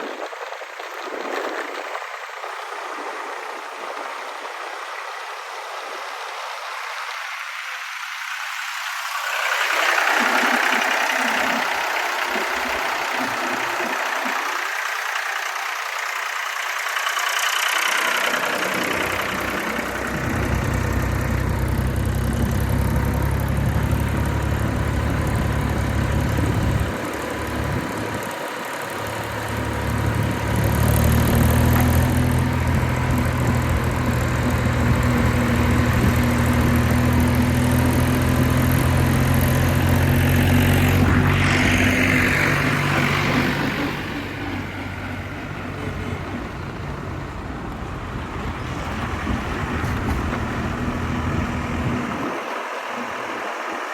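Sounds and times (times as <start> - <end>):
tractor diesel engine throbbing: 2.4 - 53.9.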